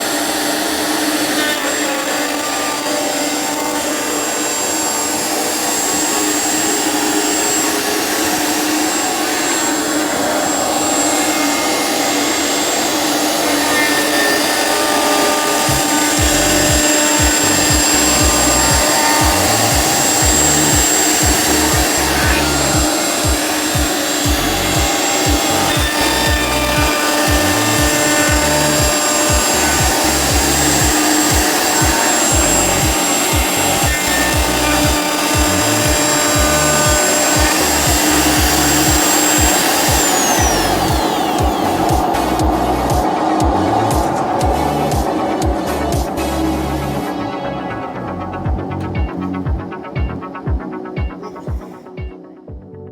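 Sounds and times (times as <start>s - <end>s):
cutting hiss: 0.0s - 52.3s
router spindle whine: 0.0s - 52.4s
low rhythmic pulsing: 0.0s - 52.9s.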